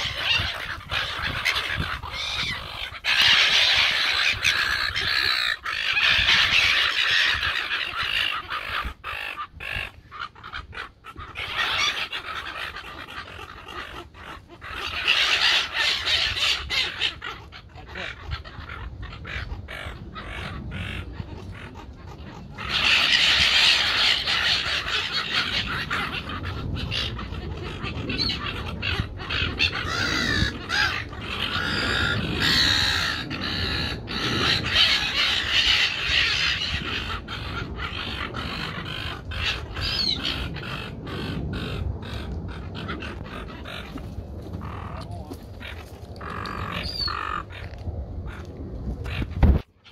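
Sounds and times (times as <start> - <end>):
gulls squawking: 0.0 - 49.9.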